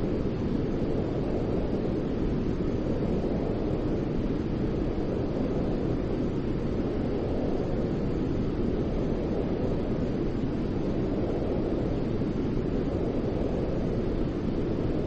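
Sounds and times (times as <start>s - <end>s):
deep rumbling white noise: 0.0s - 15.0s.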